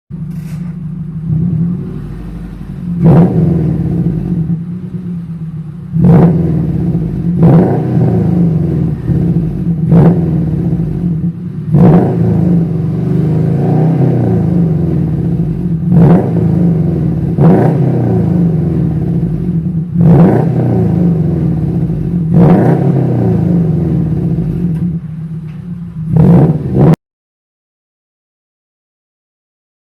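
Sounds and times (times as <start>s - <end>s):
car engine revving over idle: 0.1s - 27.0s.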